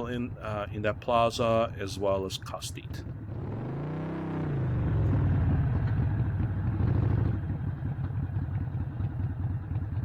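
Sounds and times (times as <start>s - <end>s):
motorcycle engine idling: 0.0s - 3.4s, 4.7s - 10.0s.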